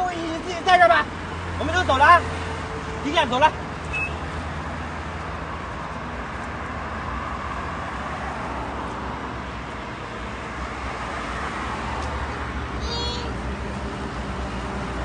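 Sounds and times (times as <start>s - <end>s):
road traffic rushing past: 0.0s - 15.0s.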